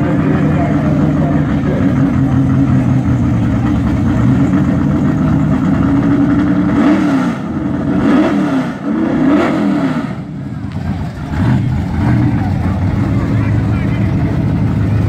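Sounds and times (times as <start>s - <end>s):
car engines idling and revving: 0.0s - 15.0s.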